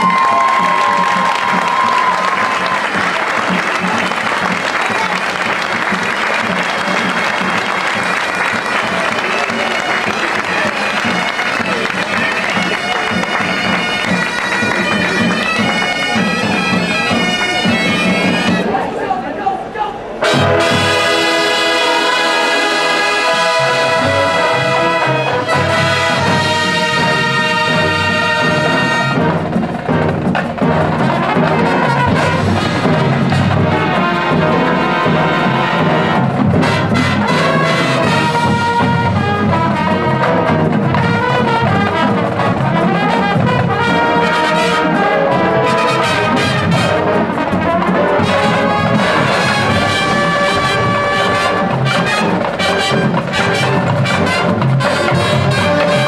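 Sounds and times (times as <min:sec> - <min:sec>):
trumpets and trombones: 0:00.0 - 0:18.9, 0:20.2 - 0:56.0
marching drums: 0:00.0 - 0:19.0, 0:20.2 - 0:56.0
marching band playing: 0:00.0 - 0:19.3, 0:20.1 - 0:56.0.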